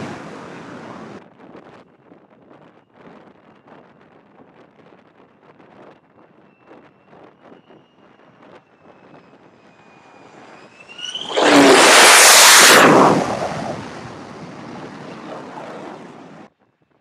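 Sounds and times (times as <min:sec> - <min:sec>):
jet engine whine and roar: 0:00.0 - 0:16.5.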